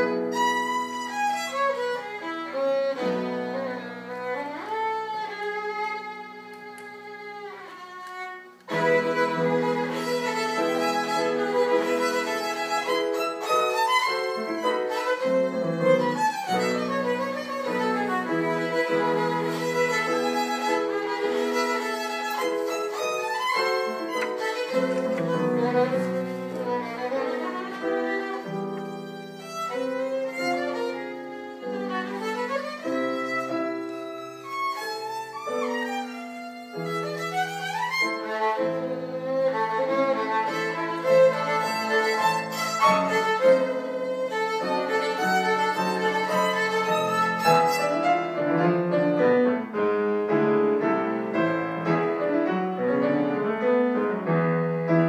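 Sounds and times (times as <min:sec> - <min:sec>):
piano accompaniment: 0:00.0 - 0:55.0
violin bowed melody: 0:00.0 - 0:55.0.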